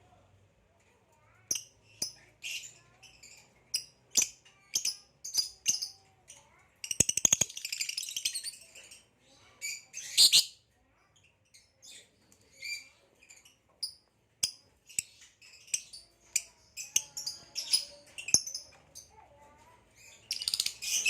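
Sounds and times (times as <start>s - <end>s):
lovebirds chirping: 1.3s - 10.6s, 11.3s - 21.0s.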